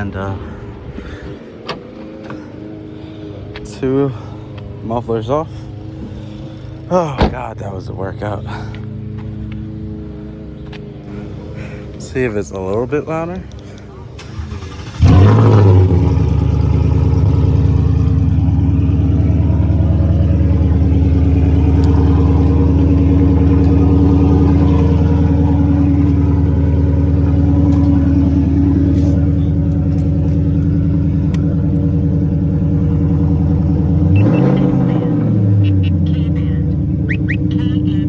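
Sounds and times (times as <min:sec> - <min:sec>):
loud car engine idling: 0:00.0 - 0:38.0.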